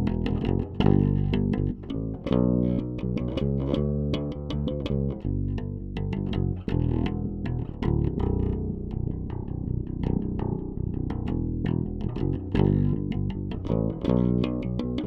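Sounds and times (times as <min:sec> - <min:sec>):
plucked bass guitar riff: 0:00.0 - 0:15.0.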